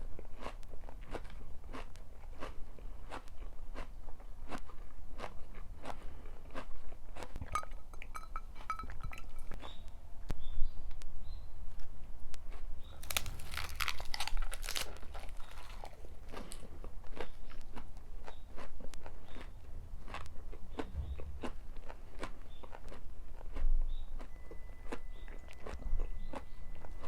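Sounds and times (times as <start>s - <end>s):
chewing crunchy food: 0.0s - 9.8s, 12.5s - 27.0s.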